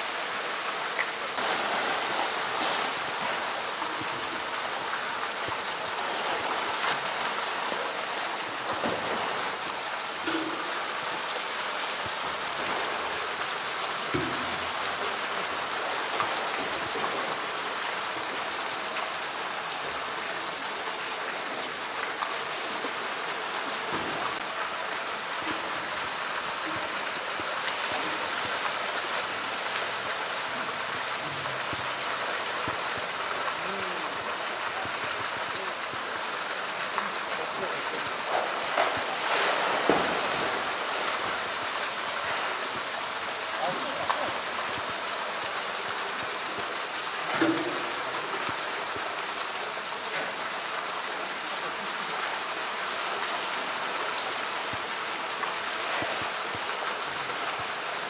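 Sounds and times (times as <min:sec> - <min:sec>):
water splashing: 0:00.0 - 0:52.2
pool water rushing: 0:00.0 - 0:58.0.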